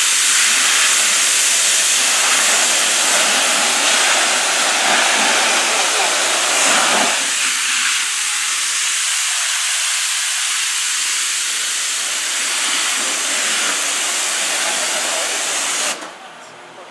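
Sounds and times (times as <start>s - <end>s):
pressure washer spraying: 0.0s - 16.1s.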